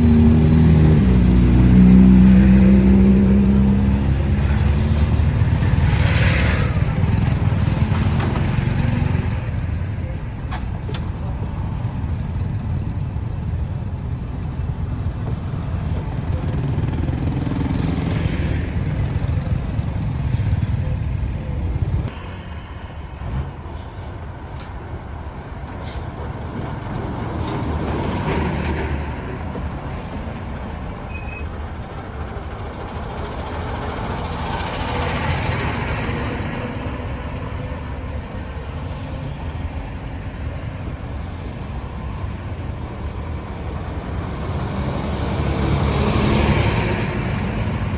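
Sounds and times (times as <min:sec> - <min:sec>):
traffic rumble of engines and tyres: 0:00.0 - 0:47.9
vehicles passing close: 0:00.0 - 0:47.9.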